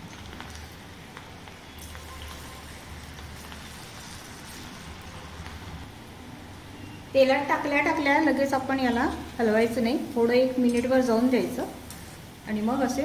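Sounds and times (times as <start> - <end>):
batter deep-frying in oil: 0.0 - 13.0.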